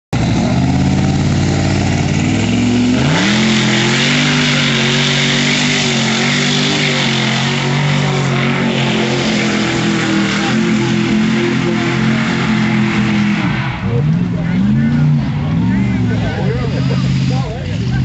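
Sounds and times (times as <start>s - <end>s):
truck engine revving: 0.1s - 18.0s
tires spinning in mud: 0.2s - 18.0s.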